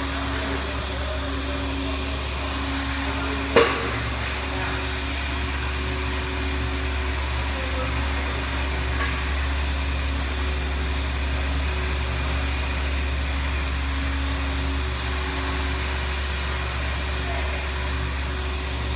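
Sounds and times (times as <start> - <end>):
cutting machine low drone: 0.0 - 18.9.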